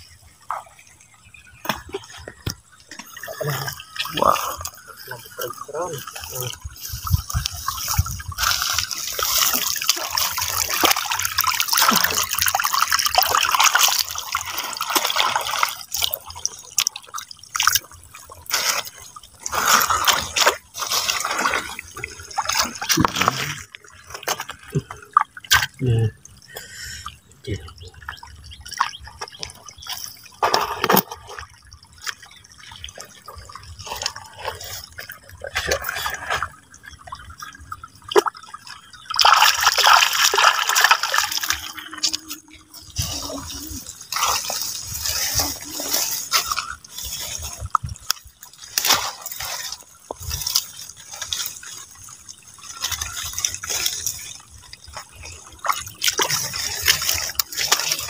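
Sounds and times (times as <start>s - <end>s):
water splashing and dripping: 0.0s - 58.0s
rush of pouring water: 2.4s - 58.0s.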